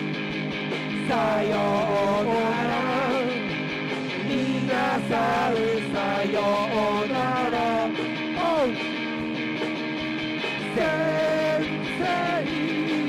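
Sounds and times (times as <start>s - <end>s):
rock music with guitar: 0.0s - 13.0s.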